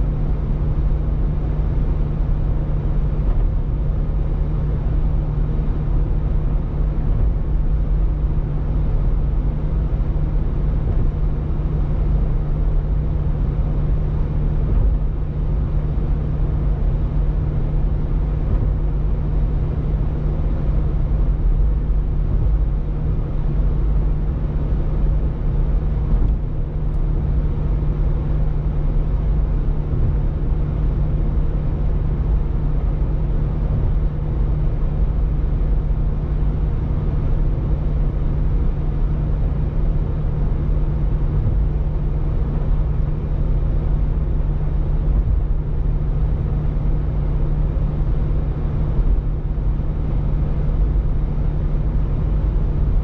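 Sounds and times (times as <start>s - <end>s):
car road noise inside cabin: 0.0s - 53.0s.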